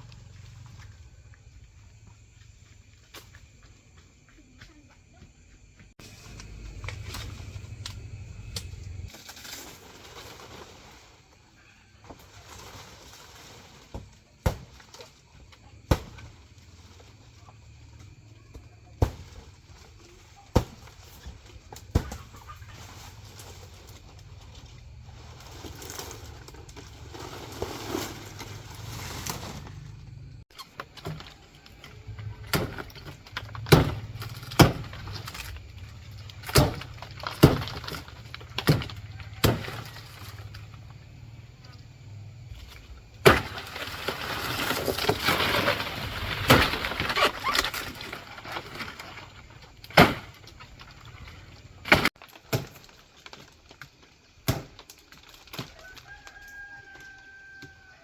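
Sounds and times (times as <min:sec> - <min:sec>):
rustling: 0:06.0 - 0:17.7, 0:19.1 - 0:54.2.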